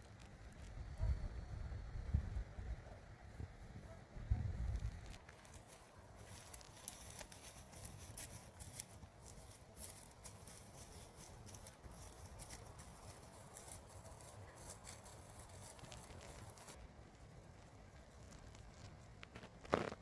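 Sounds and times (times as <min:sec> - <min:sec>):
small clicks and rustles: 0:00.0 - 0:00.8, 0:04.7 - 0:20.0.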